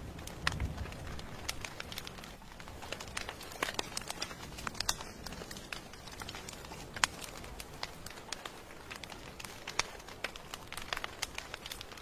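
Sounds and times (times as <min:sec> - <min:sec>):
rain hissing: 0:00.0 - 0:12.0
wood fire crackling and popping: 0:00.0 - 0:12.0.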